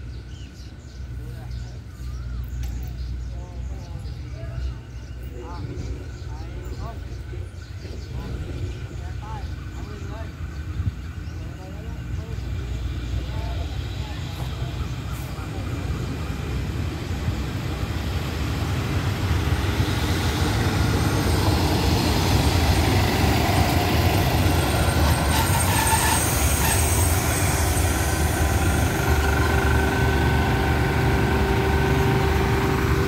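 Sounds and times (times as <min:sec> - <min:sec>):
diesel train engine drone: 0:00.0 - 0:33.0.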